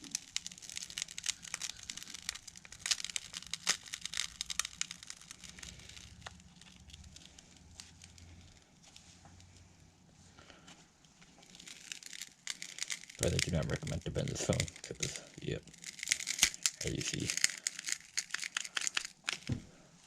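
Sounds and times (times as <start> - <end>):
cracked phone body crackling: 0.0 - 9.7, 11.2 - 19.7.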